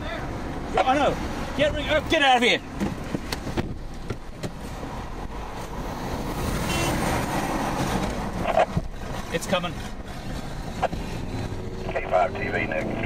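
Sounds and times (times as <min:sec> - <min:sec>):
car cabin engine and road noise: 0:00.0 - 0:13.0.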